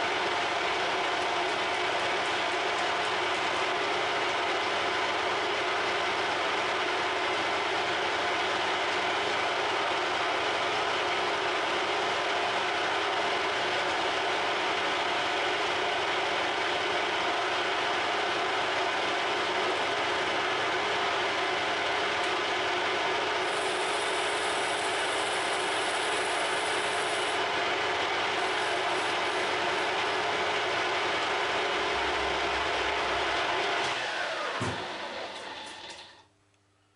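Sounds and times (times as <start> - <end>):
lathe gearbox whirring: 0.1 - 36.2.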